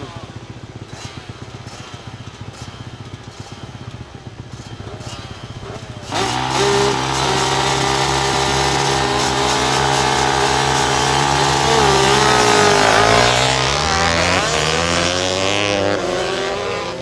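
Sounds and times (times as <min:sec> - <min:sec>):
motorcycles at full throttle: 0:00.0 - 0:17.0
motorcycles idling and revving: 0:00.0 - 0:17.0.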